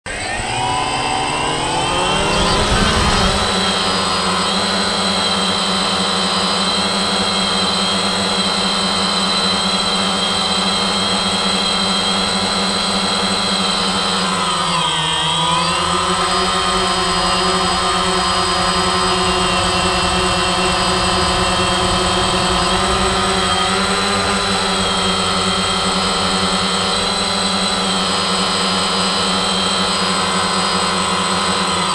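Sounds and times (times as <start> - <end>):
drone propellers whining: 0.1 - 31.9.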